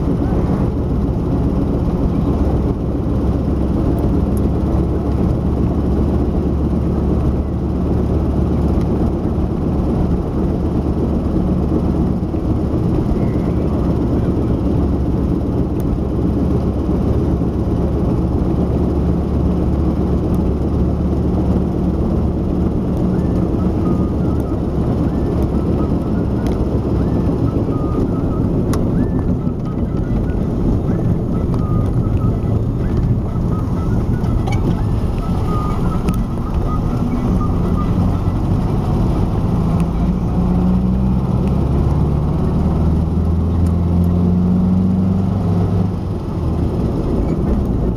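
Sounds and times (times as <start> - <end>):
car interior road drone: 0.0 - 47.9.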